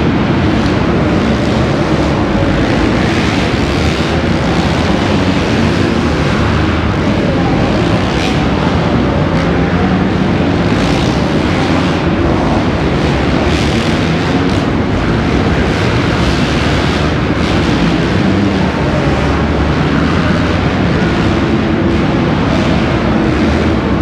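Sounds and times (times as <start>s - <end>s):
dirt bikes revving and racing: 0.0s - 24.0s.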